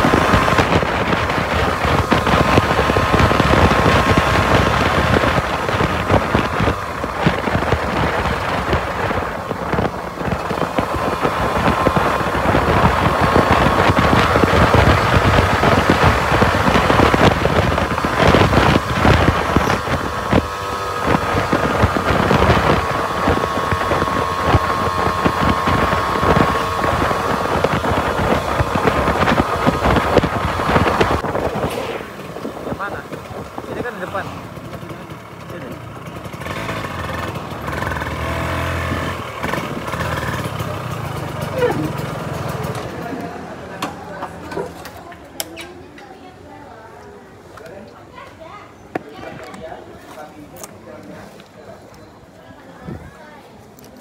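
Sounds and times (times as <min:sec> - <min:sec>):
wind buffeting microphone: 0:00.0 - 0:43.2, 0:52.8 - 0:53.4
motorcycle engine cruising: 0:00.0 - 0:45.9.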